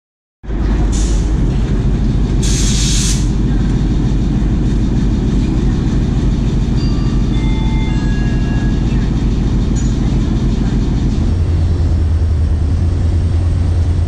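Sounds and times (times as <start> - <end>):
train rumbling on rails: 0.4 - 14.0.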